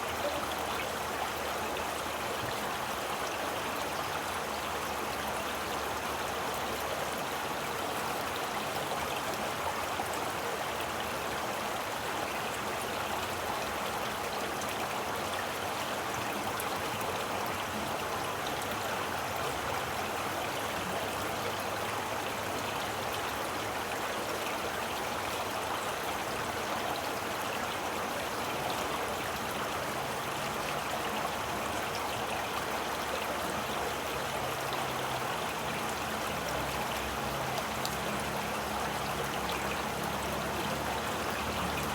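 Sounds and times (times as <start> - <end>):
stream rushing and babbling: 0.0 - 41.9.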